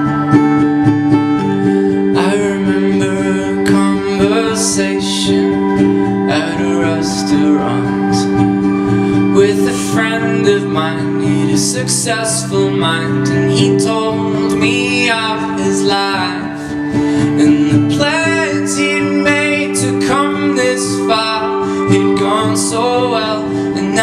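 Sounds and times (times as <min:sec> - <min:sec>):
strummed acoustic guitar: 0:00.0 - 0:24.0
man singing: 0:01.9 - 0:24.0.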